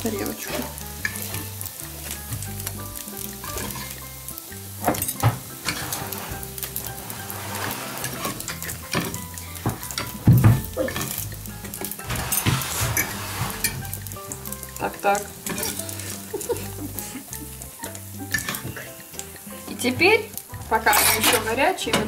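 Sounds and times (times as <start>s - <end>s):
bread frying in oil sizzling: 0.0s - 22.0s.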